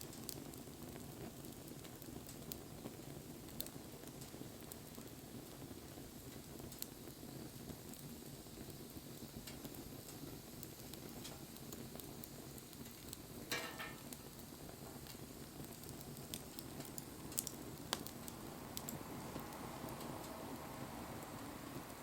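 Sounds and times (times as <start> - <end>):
bonfire flames rustling: 0.0 - 22.0
fire crackling and popping: 0.0 - 22.0.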